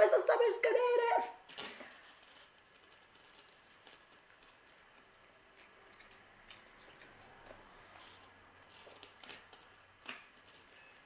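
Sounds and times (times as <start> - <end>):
faint chewing: 1.4 - 11.0.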